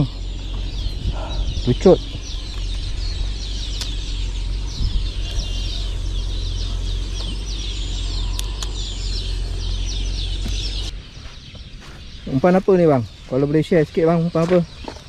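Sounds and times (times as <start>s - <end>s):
steady low rumble: 0.0s - 14.3s
birds twittering: 0.0s - 15.0s.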